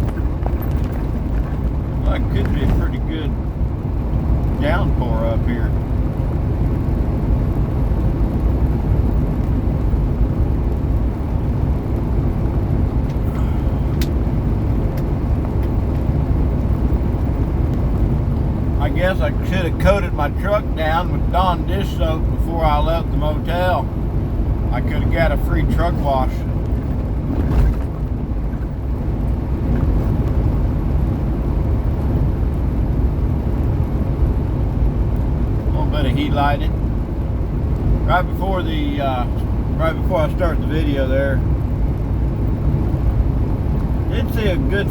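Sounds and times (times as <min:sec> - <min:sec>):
truck engine and road drone: 0:00.0 - 0:44.9.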